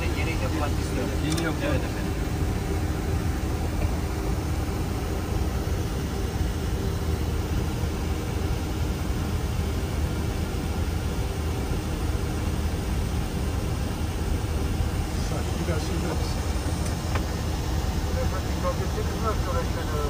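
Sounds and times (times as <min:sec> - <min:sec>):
airliner cockpit engine rumble: 0:00.0 - 0:20.0.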